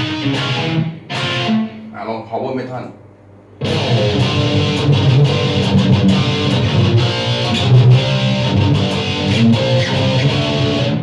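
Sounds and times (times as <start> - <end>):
distorted electric guitar riff: 0.0 - 2.0, 3.6 - 11.0.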